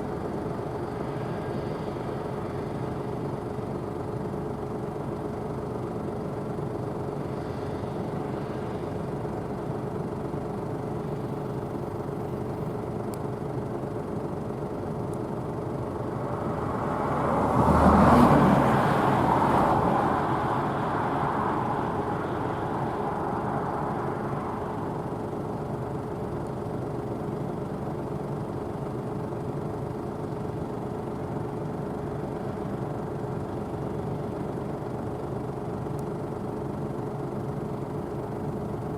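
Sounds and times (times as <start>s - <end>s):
combine harvester engine and threshing: 0.0s - 38.9s.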